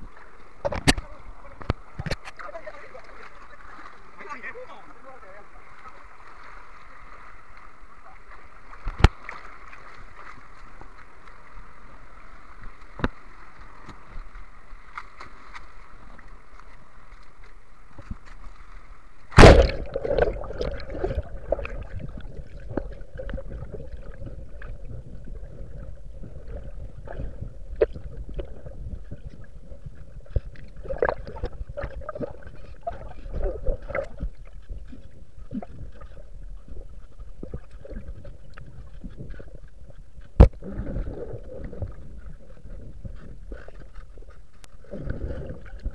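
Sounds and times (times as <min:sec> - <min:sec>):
water gurgling and sloshing: 0:00.0 - 0:45.9.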